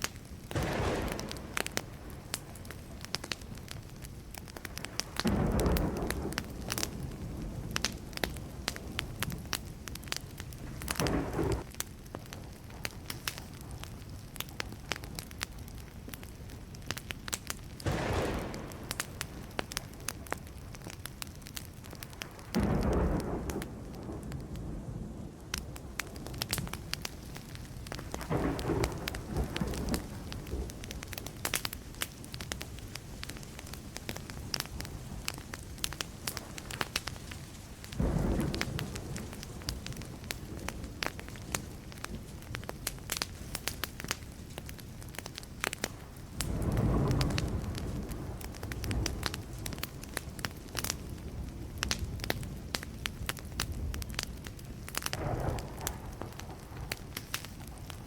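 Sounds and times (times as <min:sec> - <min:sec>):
wood fire crackling and popping: 0:00.0 - 0:58.0
low rumbles of thunder: 0:00.4 - 0:15.8, 0:17.8 - 0:21.0, 0:21.6 - 0:45.2, 0:45.9 - 0:58.0.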